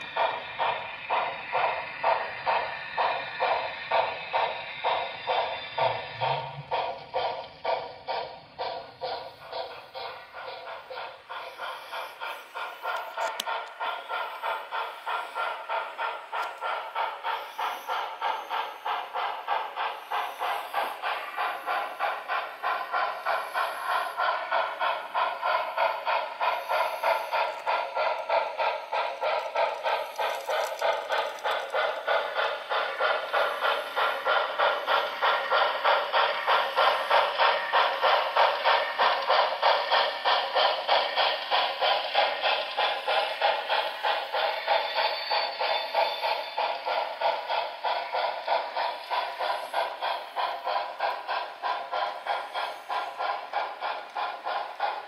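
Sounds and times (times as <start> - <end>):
model locomotive chuffing from speaker: 0.0 - 55.0.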